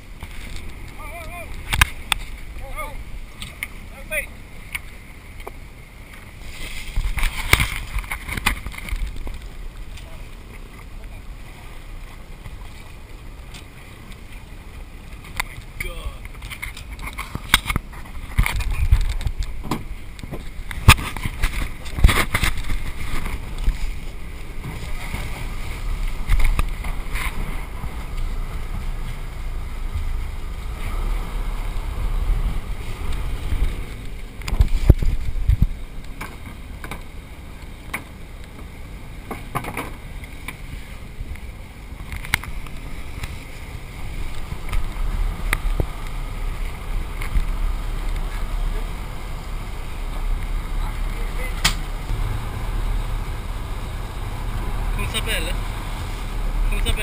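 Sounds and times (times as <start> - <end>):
boat engine rumble: 0.0 - 57.0
water and wind noise: 0.0 - 57.0.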